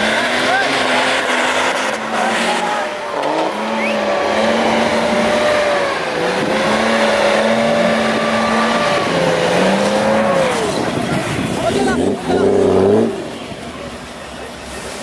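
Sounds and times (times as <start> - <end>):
engine revving hard: 0.0 - 13.4.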